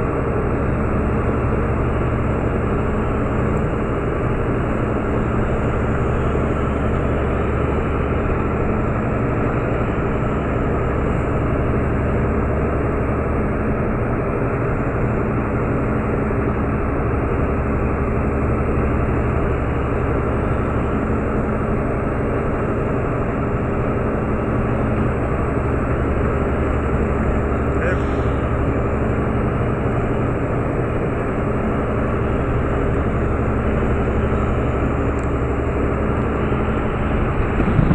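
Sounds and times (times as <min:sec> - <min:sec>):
diesel engines deep drone: 0:00.0 - 0:37.9.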